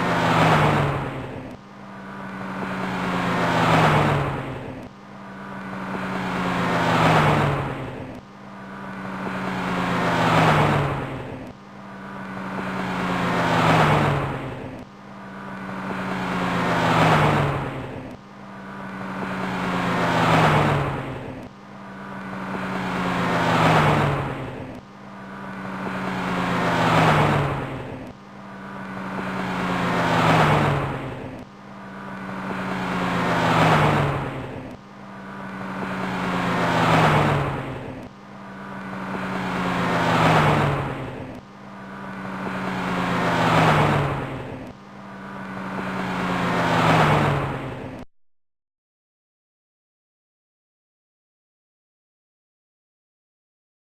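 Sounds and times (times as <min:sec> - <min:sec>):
car engine passing by: 0:00.0 - 0:48.0.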